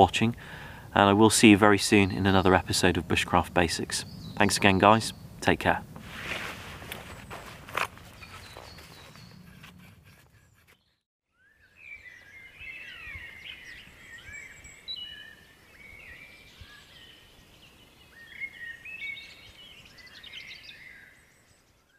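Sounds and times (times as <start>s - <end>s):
songbirds singing and chirping: 0.0s - 6.0s, 6.9s - 21.9s.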